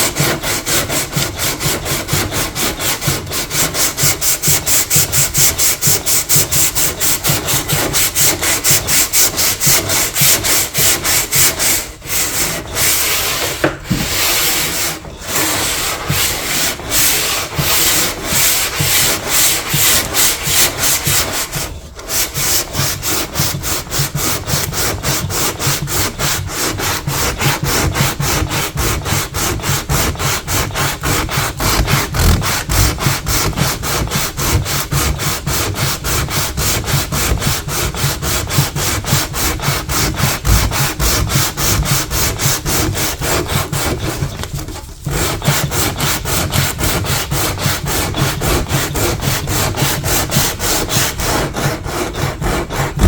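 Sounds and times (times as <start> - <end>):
sandpaper rubbing back and forth: 0.0 - 53.0.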